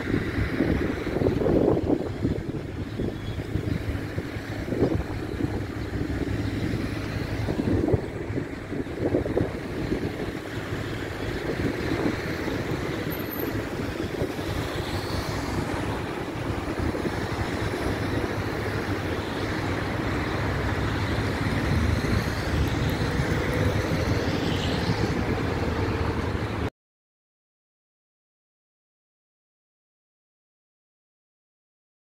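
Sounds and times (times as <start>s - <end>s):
road traffic noise: 0.0s - 26.7s
truck engine running: 0.0s - 26.7s.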